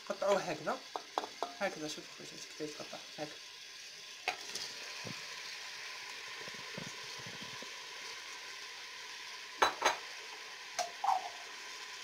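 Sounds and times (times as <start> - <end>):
meat and onions sizzling in oil: 0.0 - 12.0.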